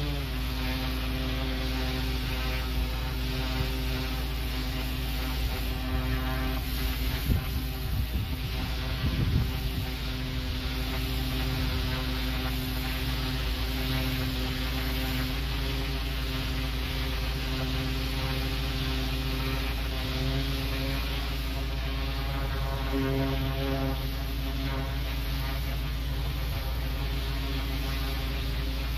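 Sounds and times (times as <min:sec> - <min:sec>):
high-pressure water jet spraying: 0:00.0 - 0:28.9
pressure washer engine drone: 0:00.0 - 0:28.9.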